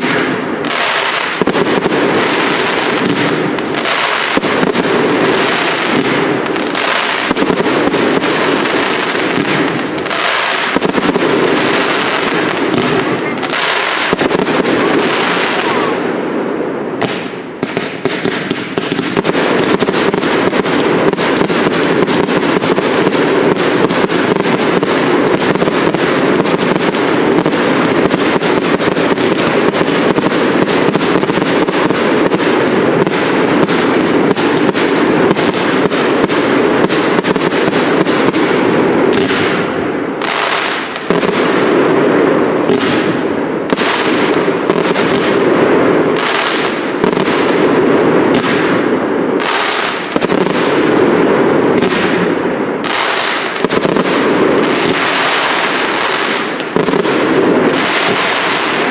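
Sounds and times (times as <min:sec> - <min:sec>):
fireworks launches and bursts: 0:00.0 - 0:58.9.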